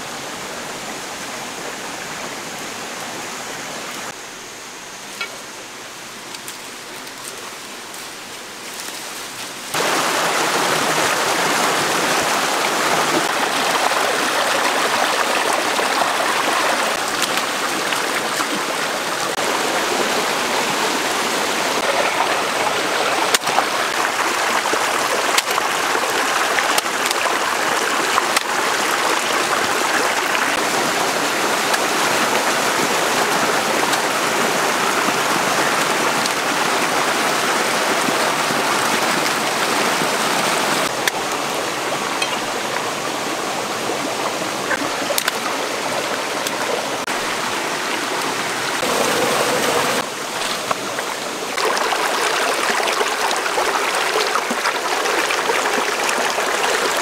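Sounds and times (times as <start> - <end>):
stream splashing over stones: 9.6 - 57.0.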